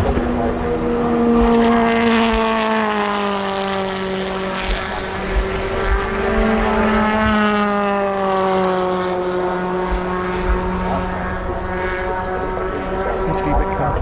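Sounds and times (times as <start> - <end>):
racing cars passing at high revs: 0.0 - 14.0.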